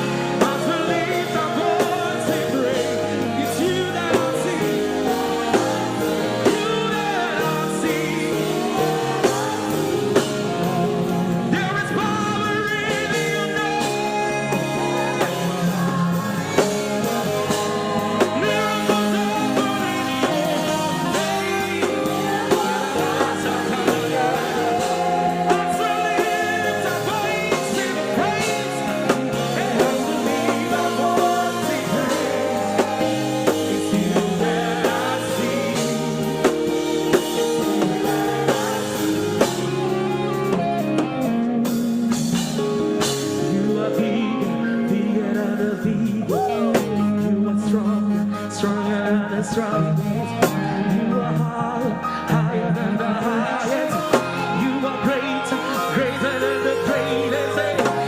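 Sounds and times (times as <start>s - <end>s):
gospel band with drums: 0.0s - 58.0s
voices singing: 0.0s - 58.0s.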